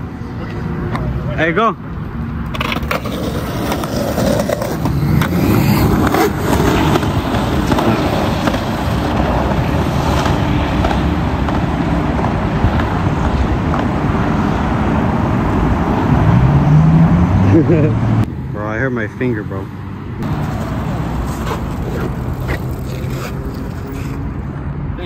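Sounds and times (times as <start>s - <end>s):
skateboard wheels rolling on asphalt: 1.9s - 17.8s, 19.7s - 24.7s.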